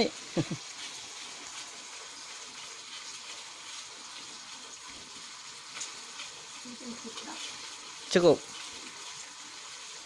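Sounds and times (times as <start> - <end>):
chili paste frying in a wok: 0.0 - 10.0.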